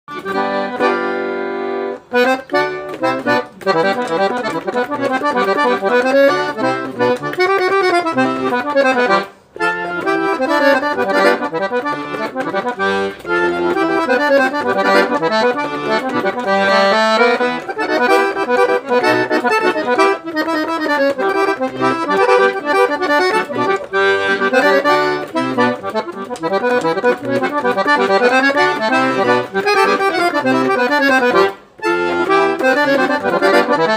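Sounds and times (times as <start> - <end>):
accordion playing lively tune: 0.1 - 33.9.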